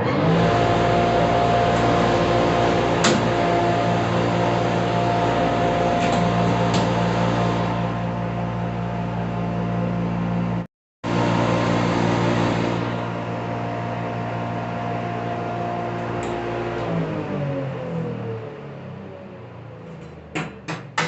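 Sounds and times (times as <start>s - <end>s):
machine hum: 0.0s - 20.3s.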